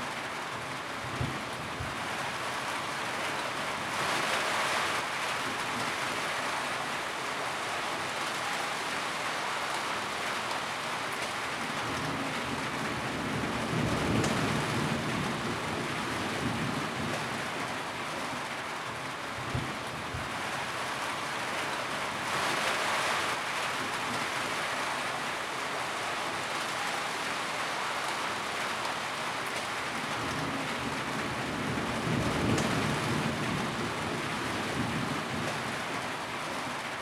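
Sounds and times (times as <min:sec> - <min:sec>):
rain on a tin roof: 0:00.0 - 0:37.0.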